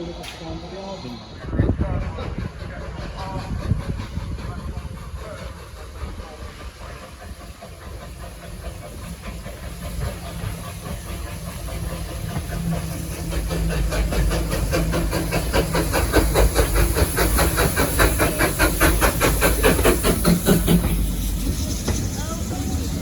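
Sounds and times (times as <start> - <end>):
steam hiss: 0.0 - 23.0
steam locomotive chuffing: 0.0 - 23.0.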